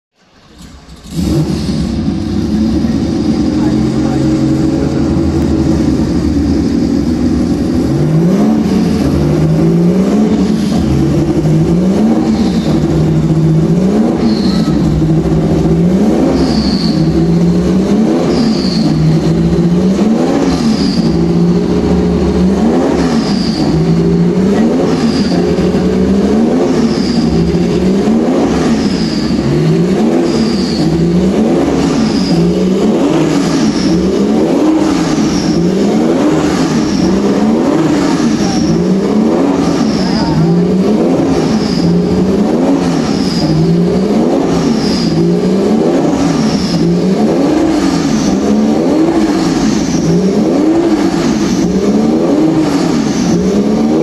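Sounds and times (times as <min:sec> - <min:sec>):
race car engine revving: 0:00.1 - 0:54.0.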